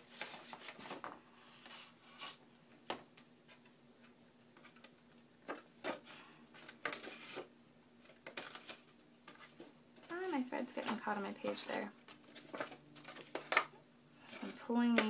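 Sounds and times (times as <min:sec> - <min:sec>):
paper rustling and scraping: 0:00.0 - 0:02.4, 0:03.5 - 0:15.0.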